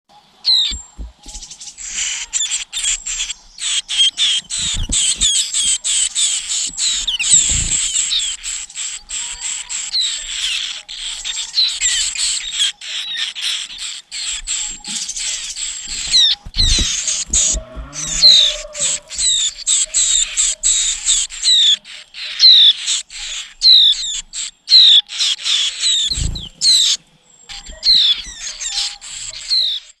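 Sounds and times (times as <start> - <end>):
chicks chirping high-pitched: 0.3 - 30.0.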